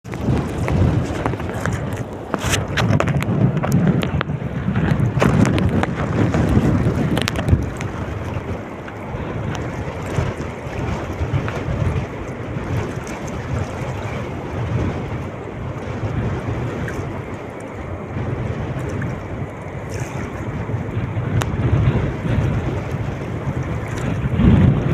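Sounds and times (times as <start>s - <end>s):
waves washing: 0.0s - 24.9s
wind buffeting microphone: 0.0s - 24.9s.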